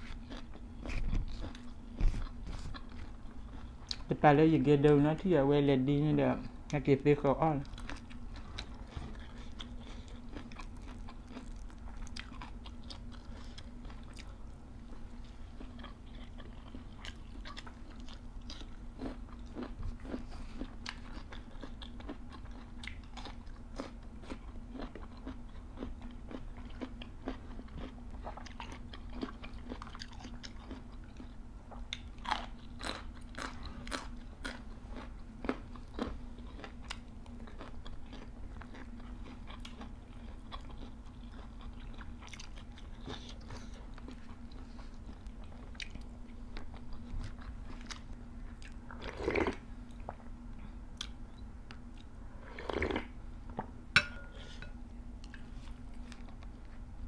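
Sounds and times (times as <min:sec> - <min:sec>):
people chewing raw vegetables: 0:00.0 - 0:04.1, 0:07.5 - 0:57.0.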